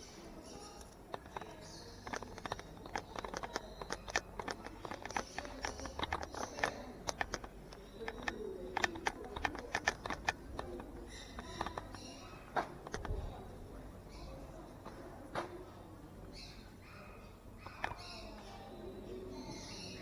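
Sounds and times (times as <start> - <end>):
birds clicking and chipping: 0.0 - 20.0.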